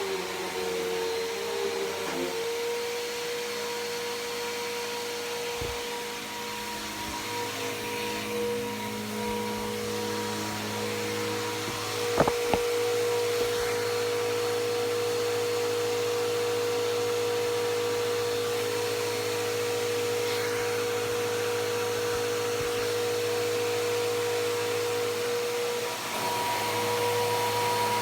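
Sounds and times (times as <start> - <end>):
upright vacuum running: 0.0 - 28.0.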